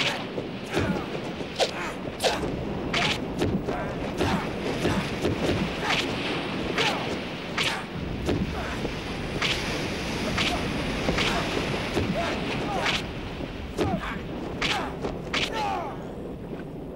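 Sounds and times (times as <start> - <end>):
sea waves: 0.0 - 16.9
wind: 0.0 - 16.9.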